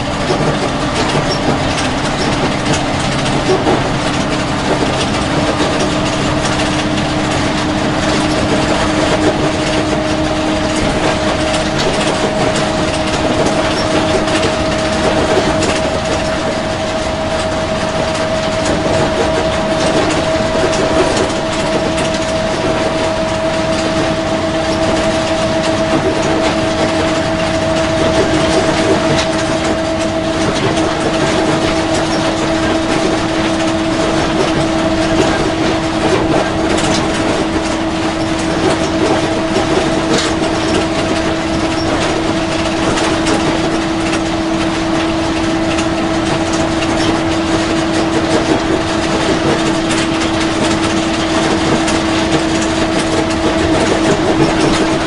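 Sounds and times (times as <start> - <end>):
bus driving noise: 0.0 - 55.0
steady whine: 0.0 - 55.0.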